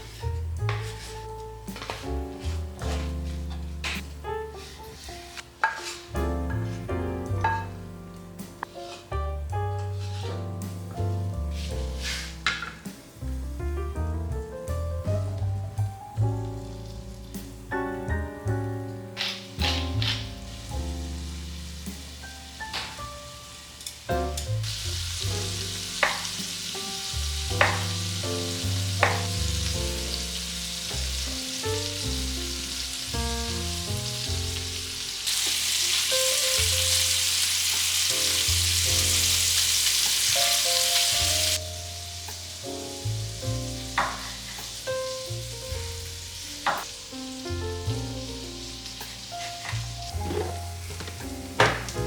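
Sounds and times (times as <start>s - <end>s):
food sizzling in a pan: 0.0s - 13.4s, 16.2s - 18.1s, 19.0s - 52.0s
soft background music: 0.0s - 52.0s.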